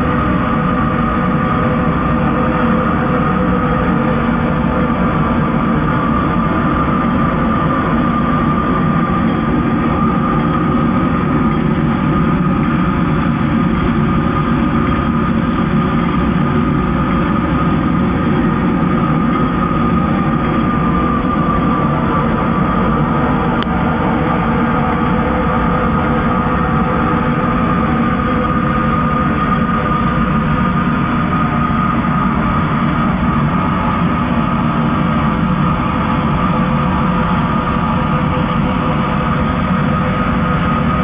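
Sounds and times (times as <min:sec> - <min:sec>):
spraying machine droning: 0:00.0 - 0:41.0.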